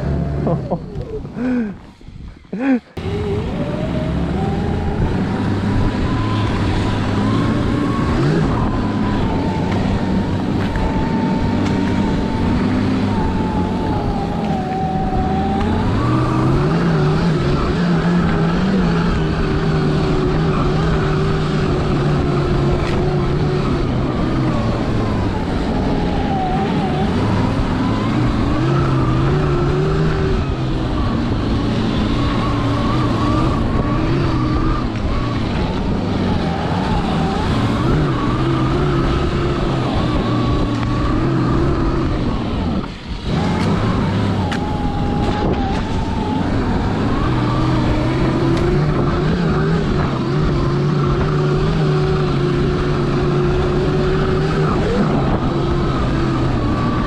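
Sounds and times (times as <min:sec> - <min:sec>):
snow track rumble: 0:00.0 - 0:57.0
electric motor whine: 0:03.0 - 0:57.0.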